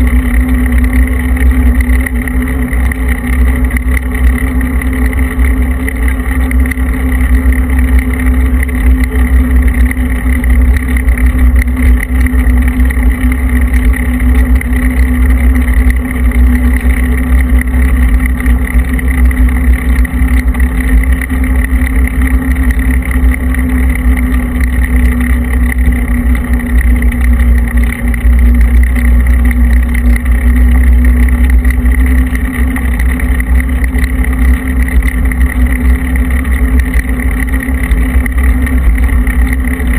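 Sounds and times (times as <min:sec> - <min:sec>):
steady road drone: 0:00.0 - 0:39.9.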